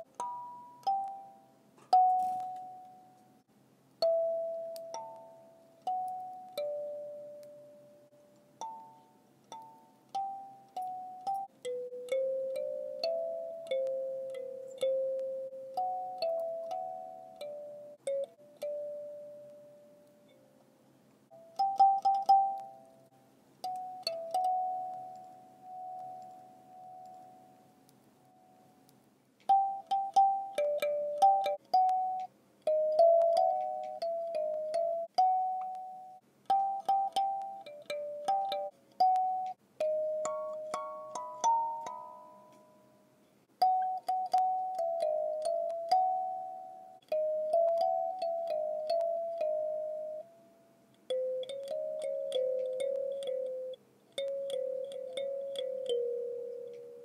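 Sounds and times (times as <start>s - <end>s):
kalimba notes: 0.0s - 3.3s, 4.0s - 20.4s, 21.4s - 28.8s, 29.5s - 50.5s, 51.1s - 57.0s.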